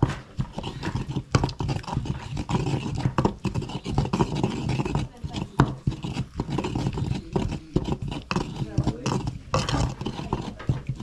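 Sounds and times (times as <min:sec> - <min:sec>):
pestle scraping in stone mortar: 0:00.0 - 0:11.0.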